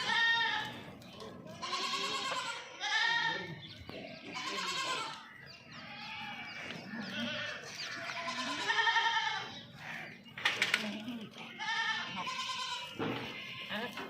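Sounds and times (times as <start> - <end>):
goats bleating: 0.0 - 10.2, 10.8 - 14.0.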